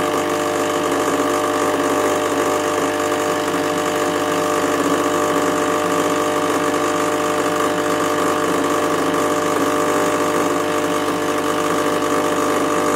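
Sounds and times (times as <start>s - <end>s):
espresso machine pump humming: 0.0s - 12.9s
espresso pouring: 0.0s - 12.9s.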